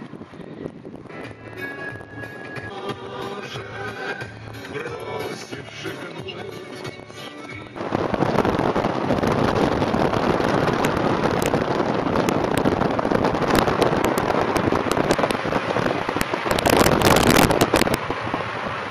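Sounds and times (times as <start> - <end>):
wind buffeting microphone: 0.0 - 5.8, 6.9 - 18.9
road and traffic noise: 0.0 - 18.9.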